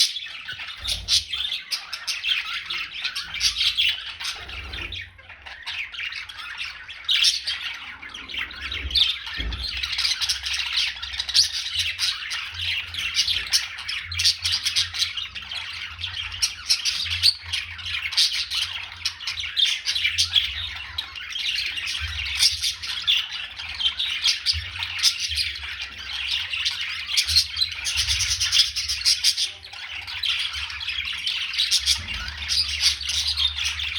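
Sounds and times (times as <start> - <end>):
birds chirping and squawking: 0.0 - 33.9.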